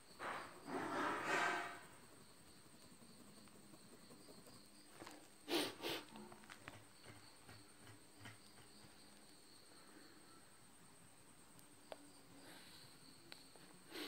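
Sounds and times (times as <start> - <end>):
faint high-pitched hum: 1.8 - 14.0.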